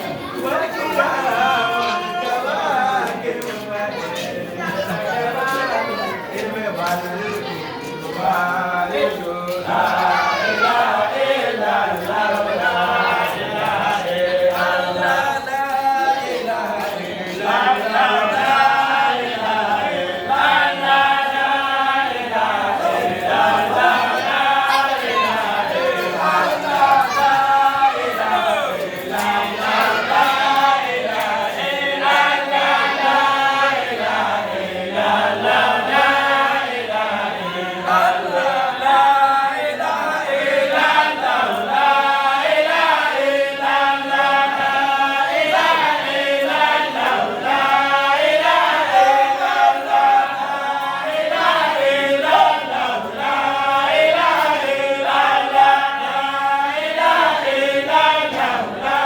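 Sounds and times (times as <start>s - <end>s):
group chanting together: 0.0s - 59.0s.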